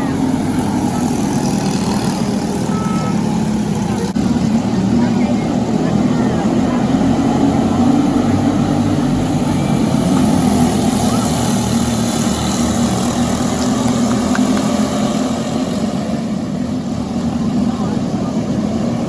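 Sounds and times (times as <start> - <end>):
kart engines droning: 0.0 - 19.0.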